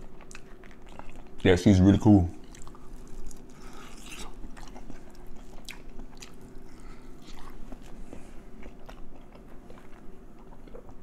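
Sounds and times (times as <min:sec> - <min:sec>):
chewing fried chicken: 0:00.0 - 0:11.0.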